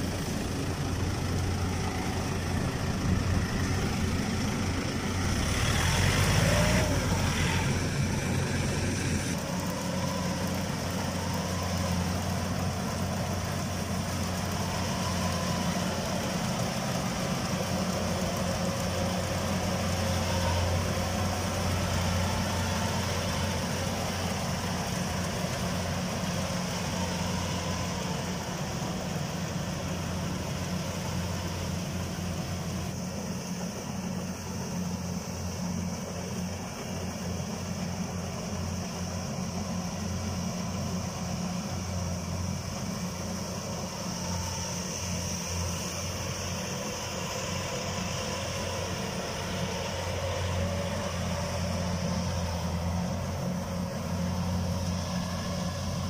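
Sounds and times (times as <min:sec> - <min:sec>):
combine harvester running: 0:00.0 - 0:56.0
diesel engines running: 0:00.0 - 0:56.0
tractor hauling trailer: 0:00.0 - 0:56.0.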